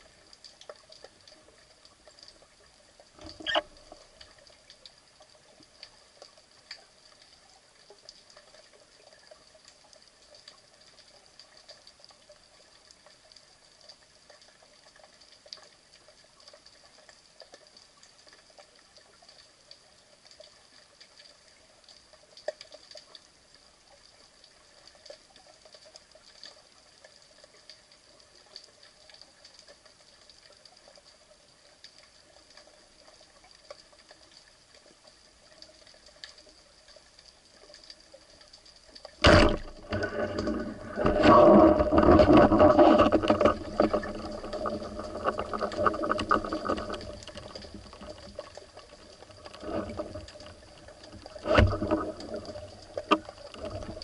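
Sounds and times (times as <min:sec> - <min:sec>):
underwater clicks and ticks: 0:00.0 - 0:54.0.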